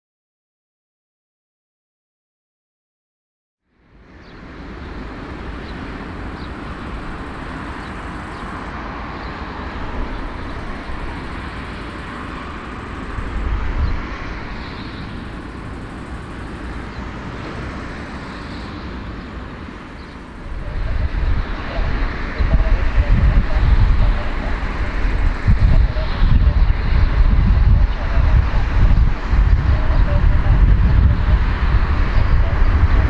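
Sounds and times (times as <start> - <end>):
jet engines rumbling: 3.8 - 33.0.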